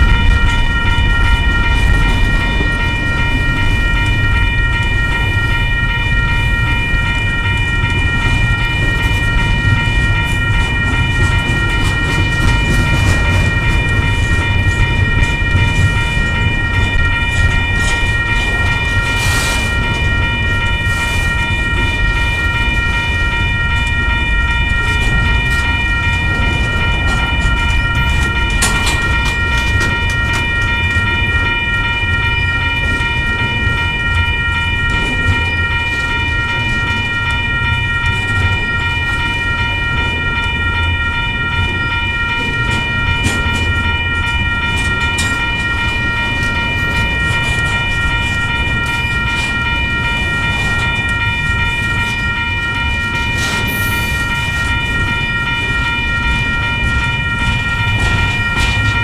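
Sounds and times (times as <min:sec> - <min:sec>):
high-pitched whine: 0:00.0 - 0:32.8, 0:43.2 - 0:59.0
train wheels rumbling on track: 0:00.0 - 0:59.0.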